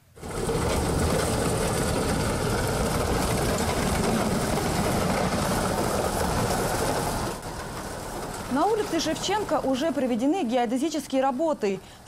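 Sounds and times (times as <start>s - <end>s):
grader engine under load: 0.0s - 10.4s.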